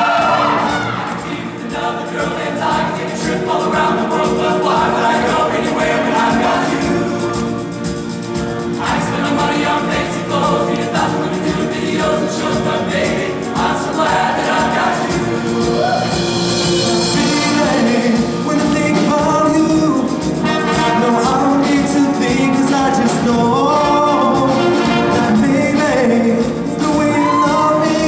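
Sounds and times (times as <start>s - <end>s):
live band with brass: 0.0s - 28.0s
men's choir singing in harmony: 0.0s - 28.0s.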